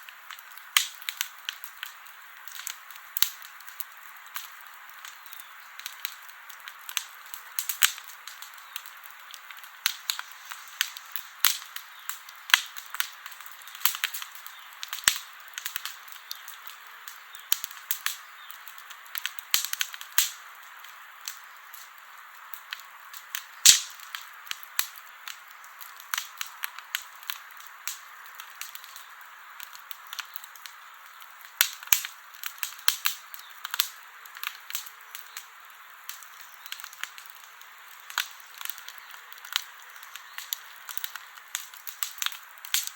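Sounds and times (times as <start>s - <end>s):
campfire crackling and popping: 0.0s - 42.9s
steady hiss: 0.0s - 42.9s.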